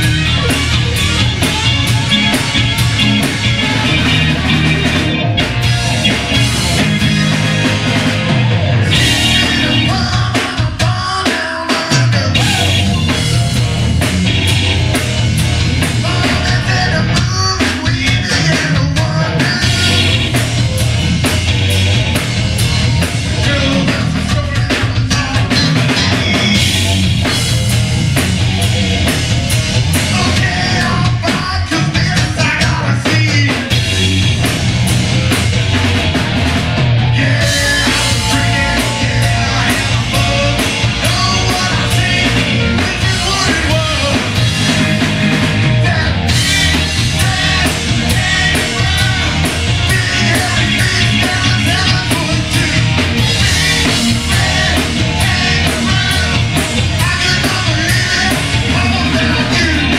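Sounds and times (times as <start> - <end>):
bass guitar: 0.0 - 59.9
drums with cymbals: 0.0 - 59.9
electric guitar: 0.0 - 59.9.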